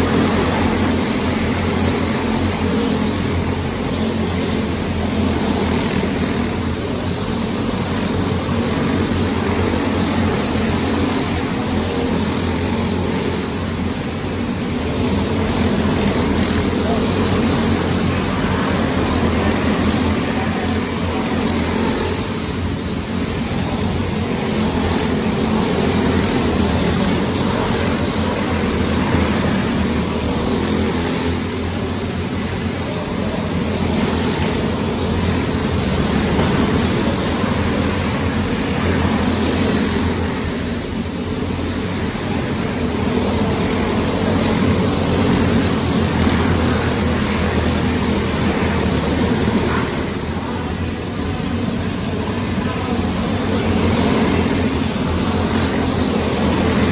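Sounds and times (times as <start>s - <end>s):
go-kart engines droning: 0.0s - 56.9s.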